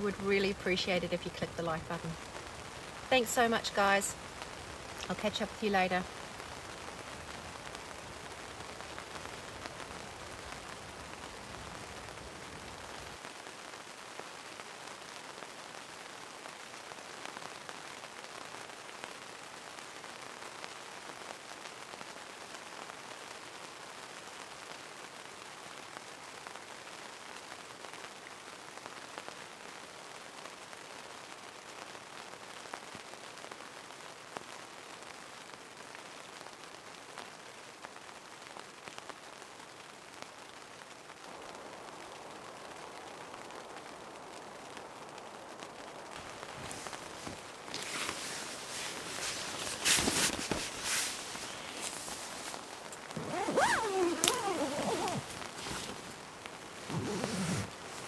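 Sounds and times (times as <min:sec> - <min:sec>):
rain pattering on tent fabric: 0:00.0 - 0:58.0.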